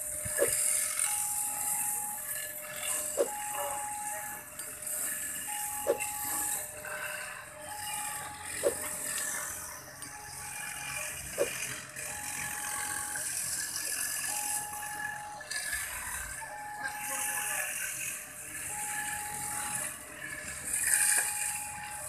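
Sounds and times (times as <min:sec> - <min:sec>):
level crossing alarm tone: 0:00.0 - 0:22.0.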